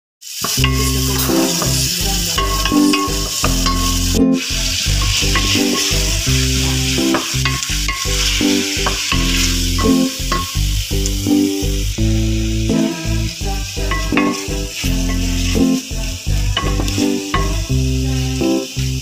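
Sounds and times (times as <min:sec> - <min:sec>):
food sizzling in hot oil: 0:00.2 - 0:19.0
wooden spoon stirring in pot: 0:00.4 - 0:10.6, 0:12.8 - 0:18.4.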